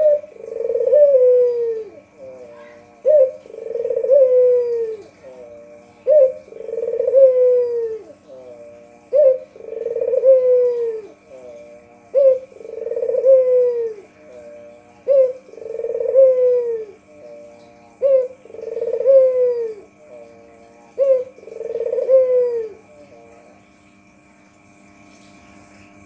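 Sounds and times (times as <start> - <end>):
dove cooing: 0.0 - 23.7.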